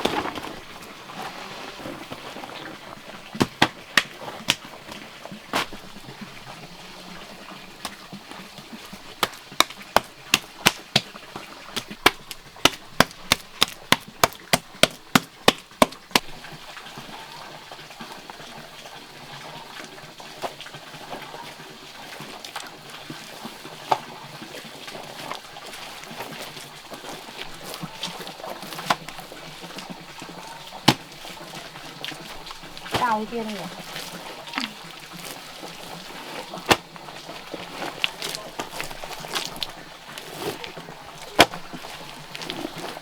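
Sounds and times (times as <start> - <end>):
rustling: 0.0 - 14.8, 20.4 - 43.0.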